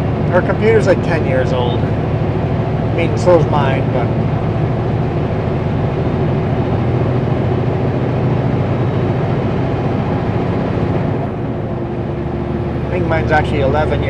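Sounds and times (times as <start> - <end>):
road noise: 0.0 - 14.0
truck diesel engine droning: 0.0 - 14.0.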